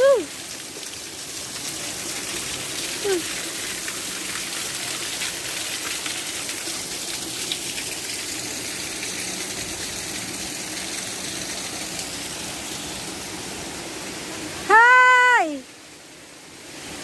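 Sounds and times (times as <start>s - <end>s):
waterfall rushing and splashing: 0.0s - 17.0s.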